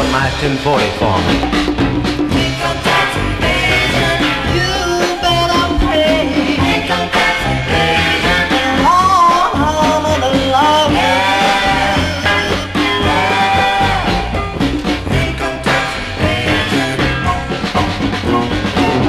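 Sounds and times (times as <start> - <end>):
soul band instrumental: 0.0 - 19.0.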